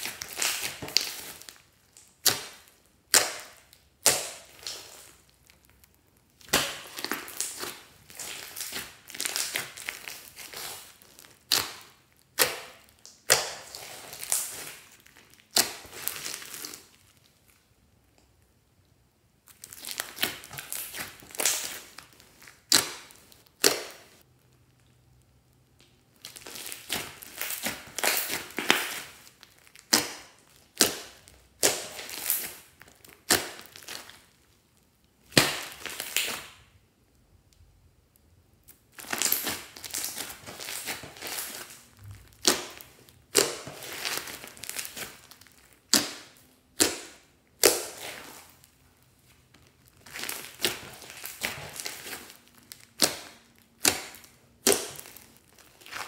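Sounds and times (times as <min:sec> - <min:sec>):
slime crackling and squishing: 0:00.0 - 0:18.4, 0:19.3 - 0:37.0, 0:38.2 - 0:56.0.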